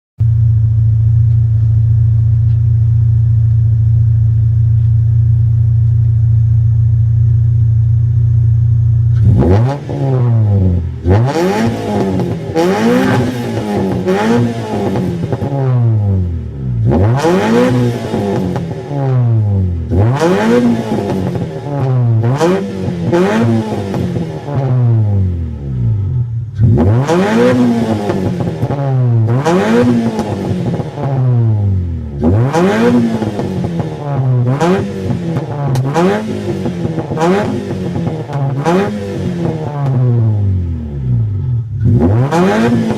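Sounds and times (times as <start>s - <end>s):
motorcycle engine idling and revving: 0.2s - 42.9s.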